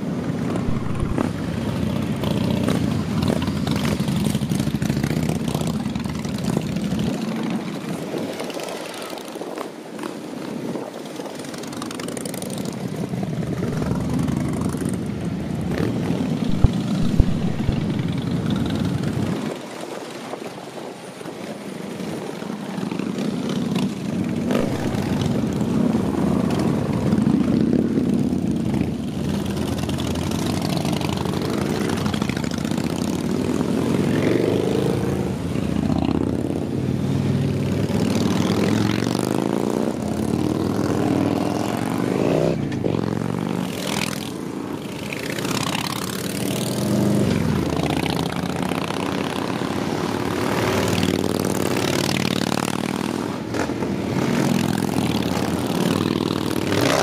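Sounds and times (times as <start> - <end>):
motorcycles riding past: 0.0 - 9.4, 11.3 - 19.7, 21.5 - 57.0.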